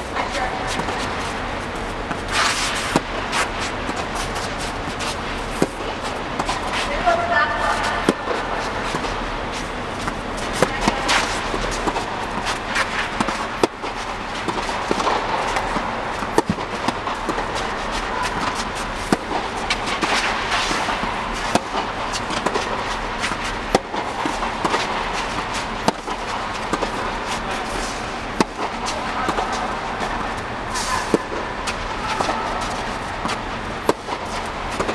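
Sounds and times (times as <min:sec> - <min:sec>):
balls bouncing on court: 0:00.0 - 0:34.9
tennis rackets striking balls: 0:00.0 - 0:34.9.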